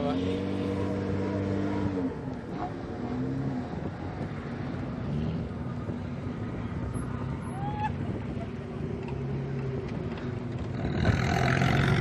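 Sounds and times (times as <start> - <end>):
off-road engine running: 0.0 - 12.0.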